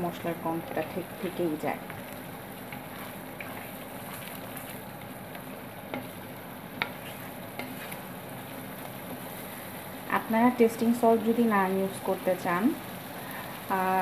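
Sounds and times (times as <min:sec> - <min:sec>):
paste sizzling in oil: 0:00.1 - 0:14.0.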